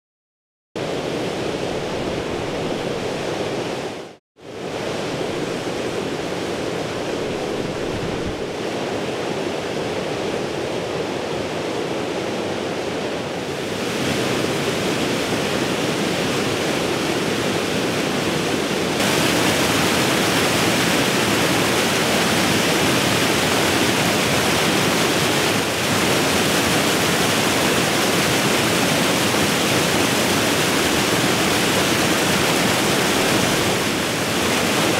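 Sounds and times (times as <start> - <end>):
river water rushing over weir: 0.8 - 34.9.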